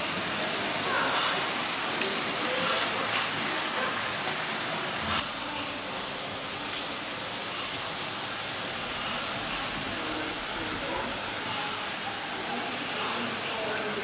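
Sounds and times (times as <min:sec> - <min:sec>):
faint background voices: 0:00.0 - 0:14.0
model trains running on rails: 0:00.0 - 0:14.0.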